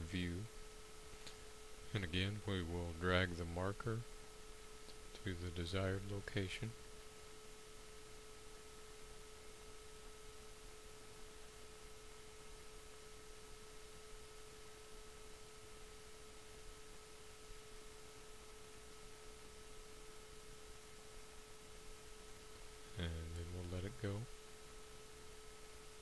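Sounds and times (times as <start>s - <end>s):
faint steady pure tone: 0.0s - 26.0s
low hiss: 0.0s - 26.0s.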